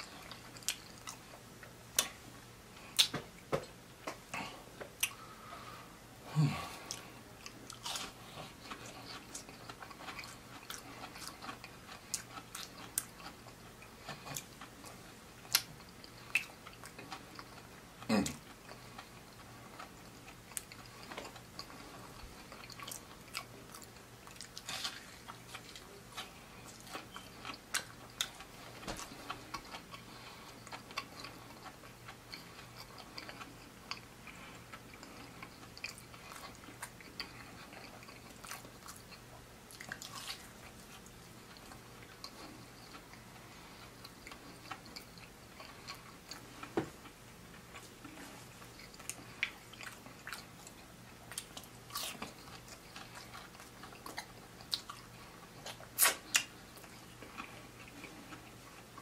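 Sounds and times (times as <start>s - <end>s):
person chewing crunchy food: 0.0s - 5.9s, 6.5s - 59.0s.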